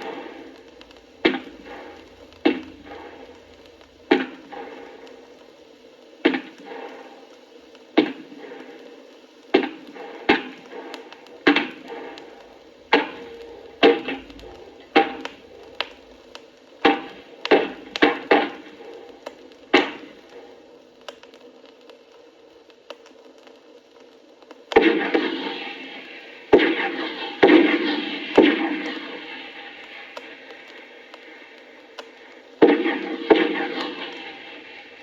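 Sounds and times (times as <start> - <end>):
sharp echoing cracks: 0.0 - 21.3, 24.7 - 35.0.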